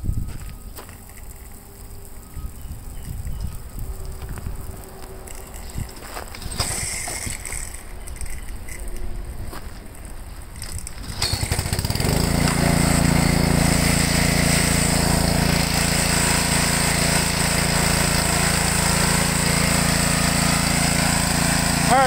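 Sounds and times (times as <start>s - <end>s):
water jet spraying: 0.0s - 22.0s
pressure washer engine running: 0.5s - 8.8s, 9.6s - 22.0s.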